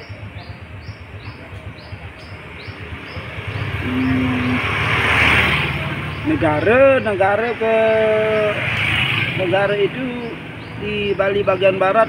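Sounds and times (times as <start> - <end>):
road vehicle approaching: 0.0 - 12.0.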